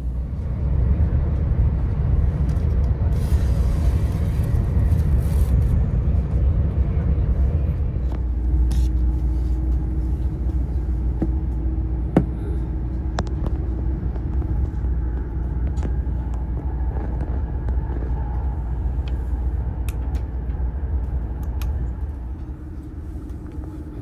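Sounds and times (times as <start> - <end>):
high-speed train rumble: 0.0 - 24.0.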